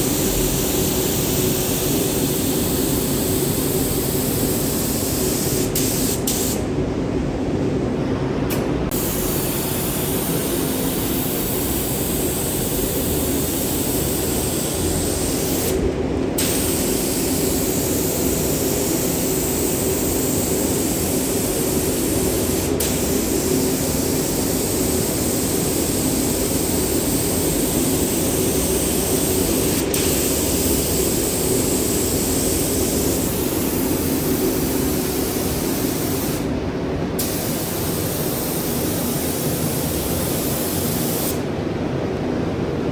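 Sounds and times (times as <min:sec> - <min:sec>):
spray gun hissing: 0:00.0 - 0:06.6, 0:08.9 - 0:15.8, 0:16.4 - 0:36.5, 0:37.2 - 0:41.4.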